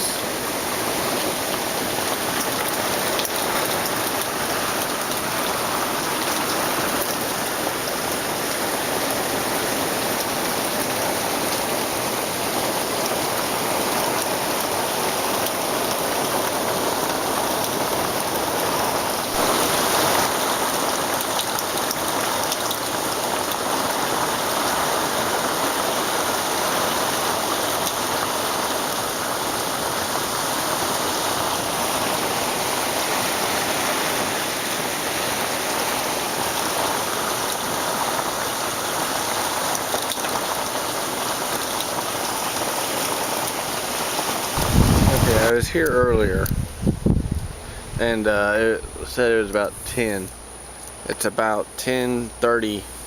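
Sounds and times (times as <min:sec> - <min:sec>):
heavy rain hissing: 0:00.0 - 0:53.0.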